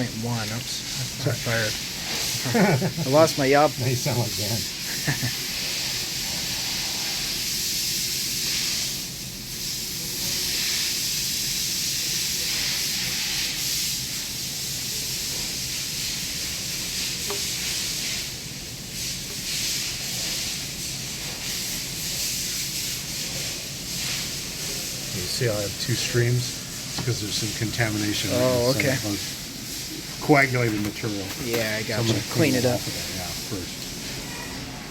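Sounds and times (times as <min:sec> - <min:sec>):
steady hiss: 0:00.0 - 0:34.9.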